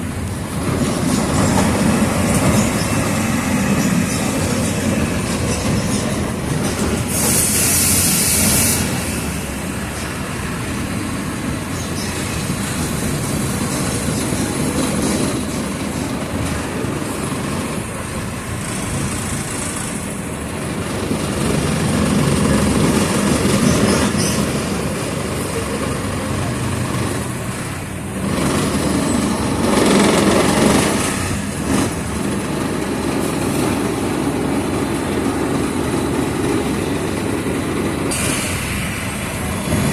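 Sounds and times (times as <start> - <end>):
bus body rattling: 0.0 - 39.9
bus engine noise from inside: 0.0 - 39.9
road noise: 0.0 - 39.9.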